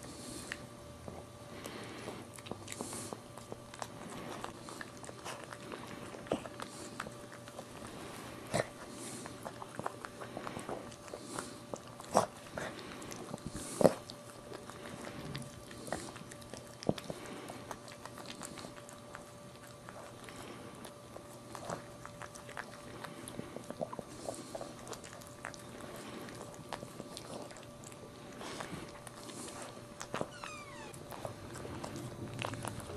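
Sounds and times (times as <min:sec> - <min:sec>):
faint steady hum: 0:00.0 - 0:32.9.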